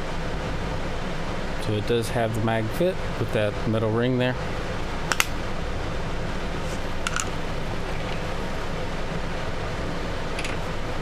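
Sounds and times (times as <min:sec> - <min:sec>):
fan-like hum: 0:00.0 - 0:11.0.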